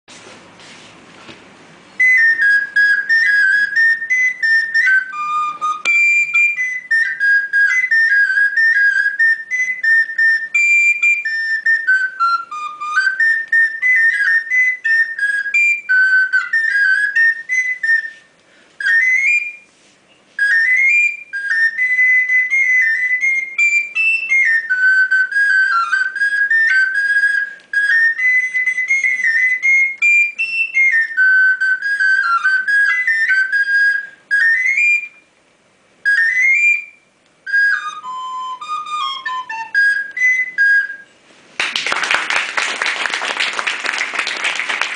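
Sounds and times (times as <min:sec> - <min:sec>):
recorder melody: 0:01.7 - 0:41.4.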